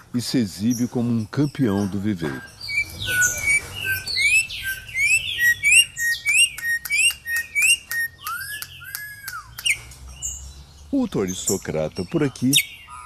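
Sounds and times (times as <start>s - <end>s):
bird singing whistled notes: 0.5s - 13.0s.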